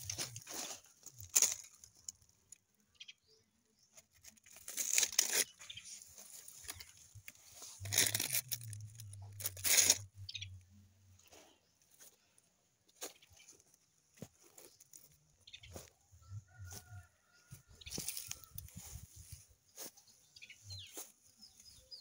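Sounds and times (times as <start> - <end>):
dry leaves and straw rustling: 0.0 - 2.6, 3.9 - 10.5, 12.9 - 22.0.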